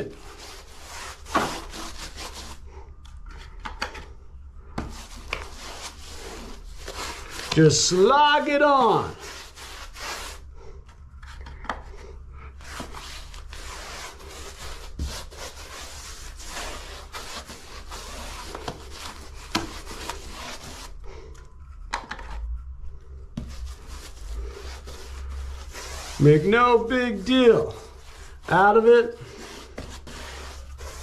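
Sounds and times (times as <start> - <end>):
paintbrush scraping wall: 0.0 - 31.0.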